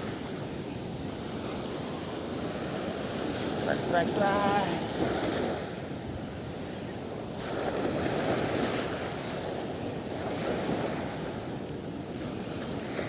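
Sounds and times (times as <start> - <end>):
sea waves washing: 0.0 - 13.0.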